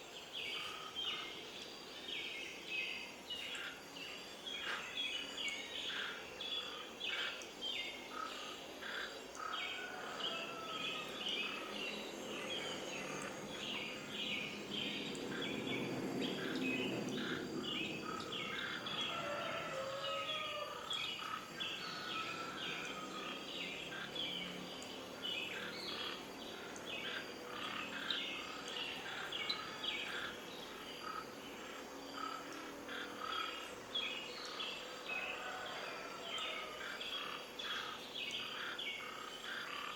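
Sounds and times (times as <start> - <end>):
birds chirping in chorus: 0.0 - 39.9
steady background hiss: 0.0 - 39.9.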